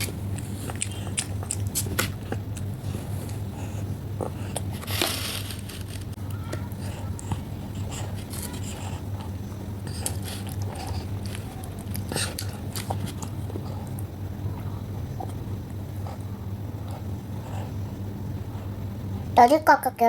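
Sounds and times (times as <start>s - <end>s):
child chewing grapes: 0.0s - 19.6s
steady low hum: 0.0s - 20.0s.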